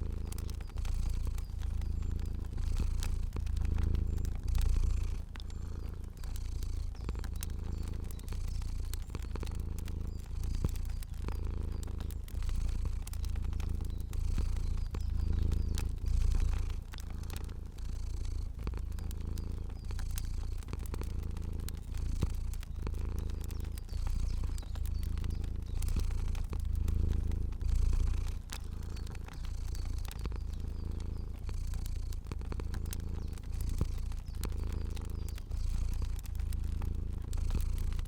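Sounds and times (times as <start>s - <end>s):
cat purring: 0.0s - 38.0s
fire crackling: 0.0s - 38.0s.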